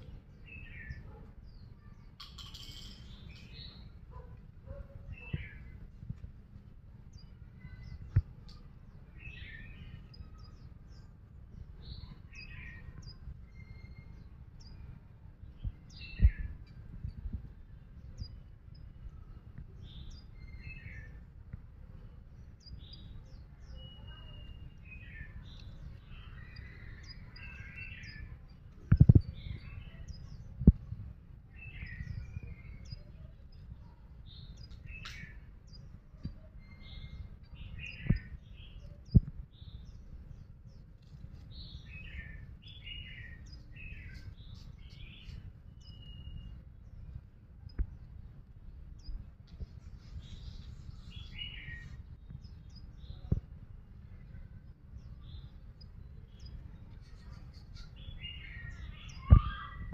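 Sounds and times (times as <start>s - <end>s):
bird chirping: 0.0s - 6.2s, 7.1s - 59.9s
steady low rumble: 3.2s - 59.9s.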